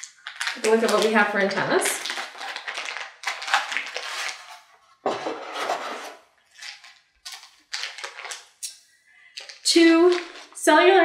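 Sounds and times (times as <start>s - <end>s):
plastic bags crinkling: 0.0s - 5.0s, 5.6s - 10.7s.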